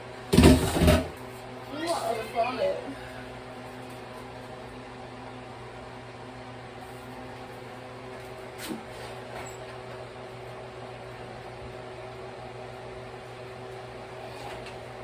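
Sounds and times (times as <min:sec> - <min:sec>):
appliance or fan humming: 0:00.0 - 0:15.0.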